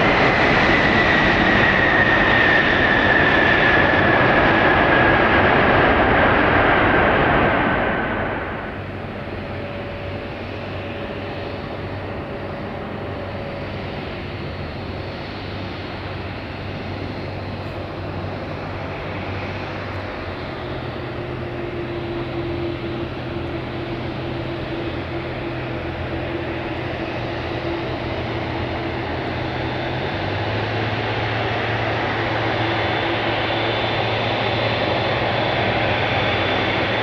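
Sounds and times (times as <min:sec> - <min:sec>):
jet engines humming: 0:00.0 - 0:37.0.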